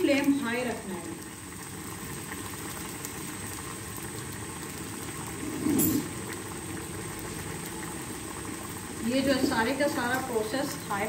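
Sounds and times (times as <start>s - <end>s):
food bubbling and sizzling in oil: 0.0s - 11.0s.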